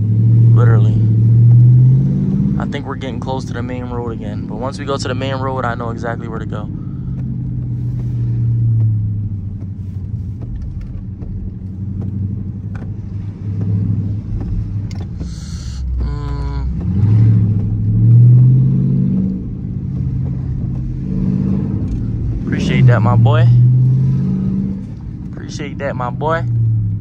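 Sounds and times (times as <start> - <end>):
car engine drone from inside: 0.0 - 27.0.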